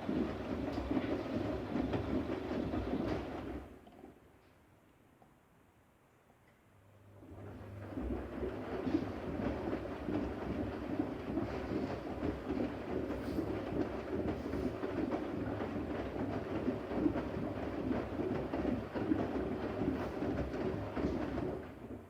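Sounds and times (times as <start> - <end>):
washing machine drum rumbling: 0.0 - 3.7, 7.4 - 22.0.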